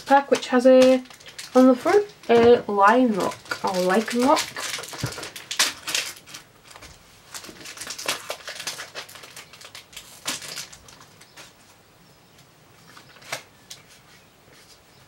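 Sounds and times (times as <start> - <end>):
foil wrapper tearing and crinkling: 0.0 - 11.6, 12.9 - 14.0.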